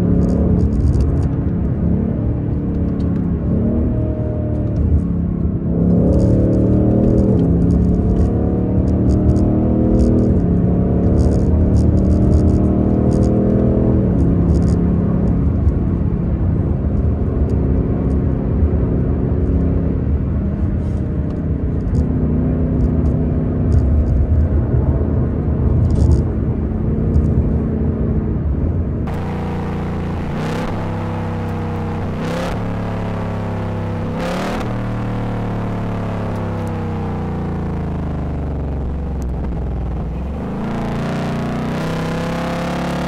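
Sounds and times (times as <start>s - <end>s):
car engine exhaust drone: 0.0s - 43.0s.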